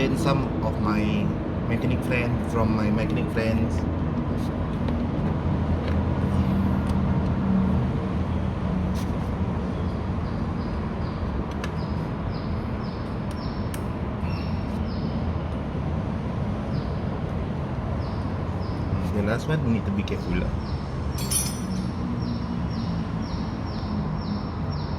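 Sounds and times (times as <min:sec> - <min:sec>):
road traffic rumbling: 0:00.0 - 0:24.9.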